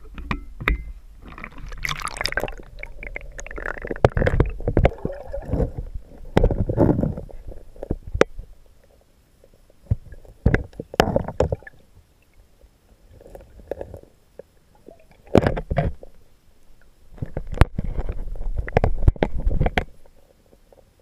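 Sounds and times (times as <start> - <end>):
low rumbling water noise: 0.0 - 21.0.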